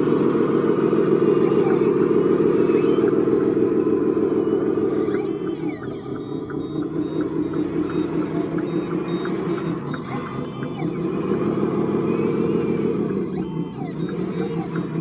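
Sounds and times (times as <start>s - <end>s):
toy machine motor hum: 0.0s - 15.0s
faint regular ticking: 0.4s - 15.0s.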